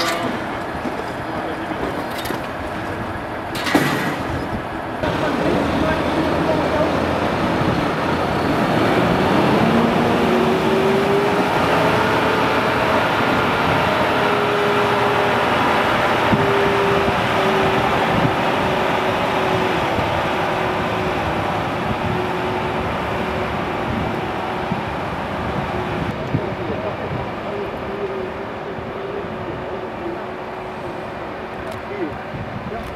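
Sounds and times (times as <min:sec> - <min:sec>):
diesel engine droning under load: 0:00.0 - 0:31.6.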